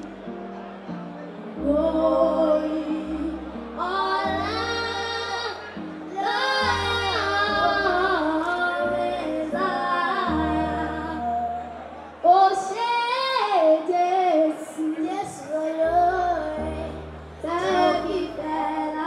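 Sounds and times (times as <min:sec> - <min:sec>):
girls singing into microphones: 0:01.6 - 0:19.0.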